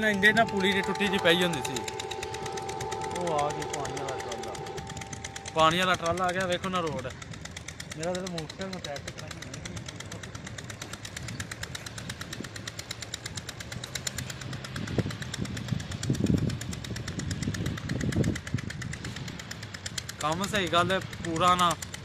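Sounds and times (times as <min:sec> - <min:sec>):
small engine knocking: 0:00.0 - 0:22.0.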